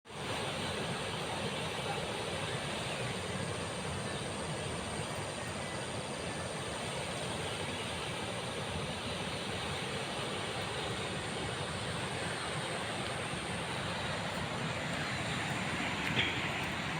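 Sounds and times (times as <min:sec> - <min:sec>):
river water rushing: 0:00.1 - 0:16.9.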